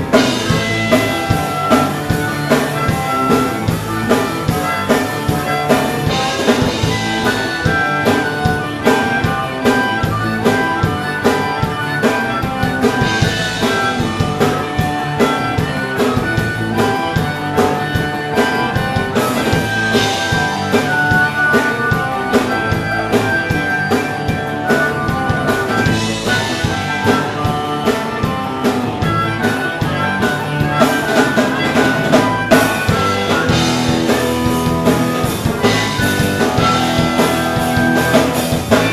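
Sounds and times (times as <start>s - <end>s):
harmonica solo: 0.0s - 38.9s
live rock band playing: 0.0s - 38.9s.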